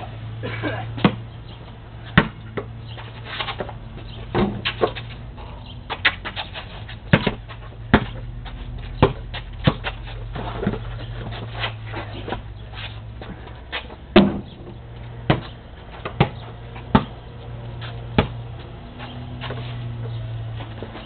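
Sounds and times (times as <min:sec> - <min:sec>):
basketball bouncing on concrete: 0:01.0 - 0:01.4, 0:02.0 - 0:12.6, 0:13.2 - 0:21.0.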